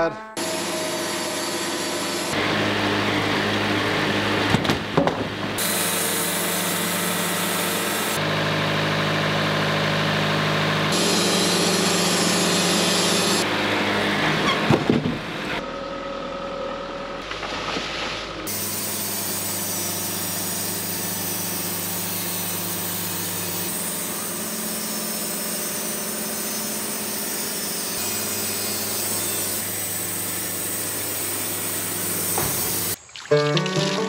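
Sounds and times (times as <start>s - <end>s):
sawmill engine drone: 0.3s - 33.0s.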